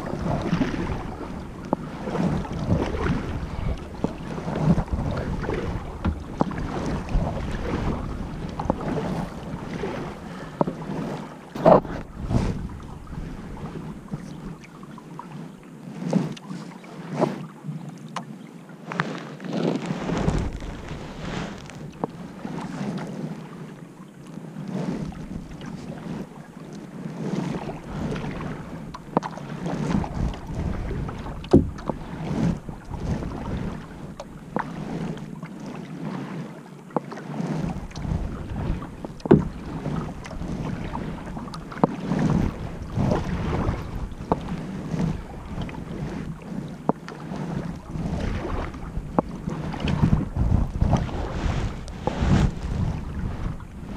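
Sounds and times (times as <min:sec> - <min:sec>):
paddle splashing through water: 0:00.0 - 0:53.9
wind rumble on microphone: 0:00.0 - 0:53.9.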